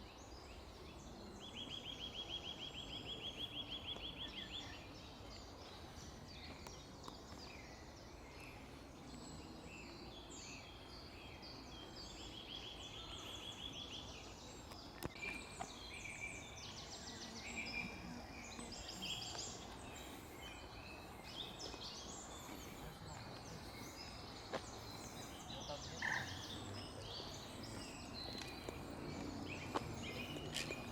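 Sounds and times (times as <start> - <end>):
small birds chirping and trilling: 0.0 - 30.9.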